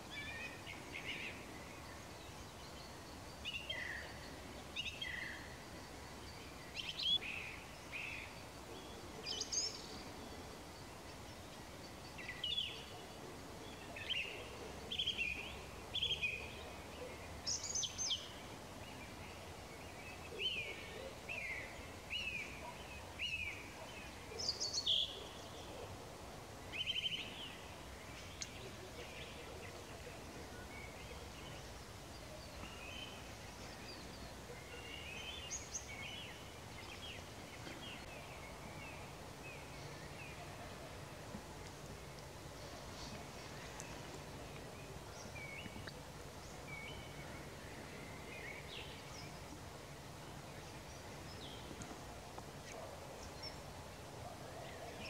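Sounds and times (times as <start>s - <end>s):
faint outdoor background noise: 0.0s - 55.0s
songbirds chirping: 0.0s - 55.0s.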